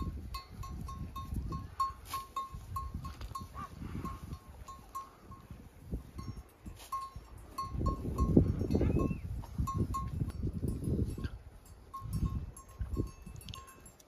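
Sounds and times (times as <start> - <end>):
livestock bell clinking: 0.0 - 14.0
wind rumbling on microphone: 0.0 - 14.0.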